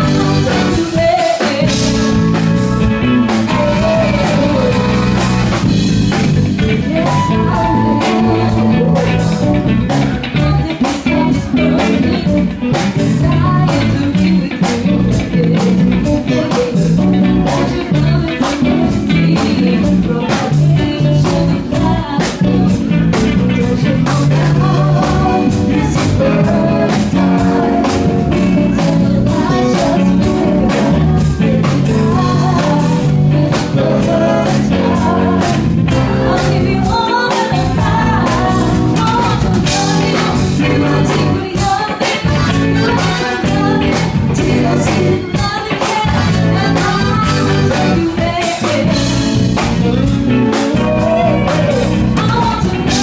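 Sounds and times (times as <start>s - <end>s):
woman singing pop song: 0.0s - 5.3s, 6.2s - 53.0s
band with drums: 0.0s - 53.0s.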